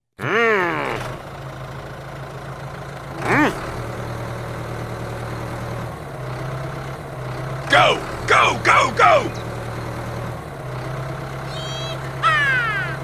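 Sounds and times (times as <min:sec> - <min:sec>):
small engine humming: 0:00.2 - 0:13.0.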